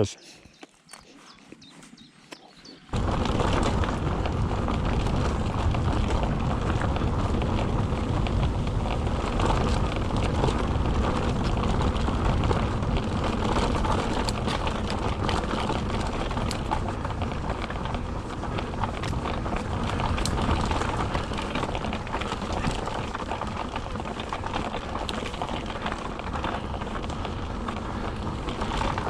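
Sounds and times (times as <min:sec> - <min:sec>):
bike rattling: 0:01.6 - 0:29.0
tyres rumbling on rocky track: 0:02.6 - 0:29.0.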